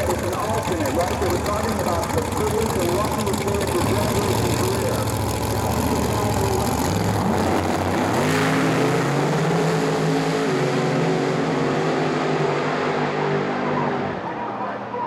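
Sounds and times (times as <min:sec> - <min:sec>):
drag racing car engines: 0:00.0 - 0:15.0.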